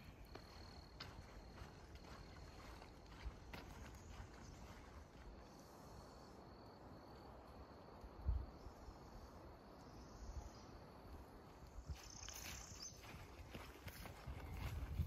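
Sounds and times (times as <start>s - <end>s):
insects chirring: 0.0s - 13.6s.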